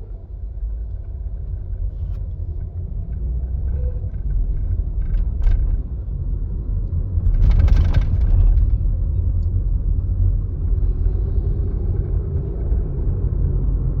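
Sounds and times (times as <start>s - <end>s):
car interior engine rumble: 0.0s - 14.0s.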